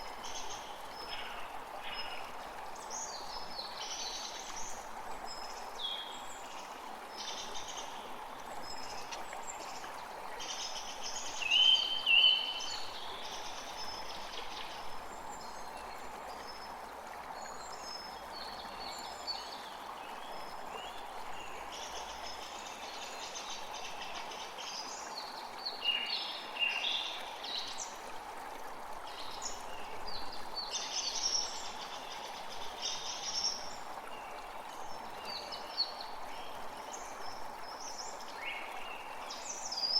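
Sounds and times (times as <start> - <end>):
forest background hiss: 0.0 - 39.9.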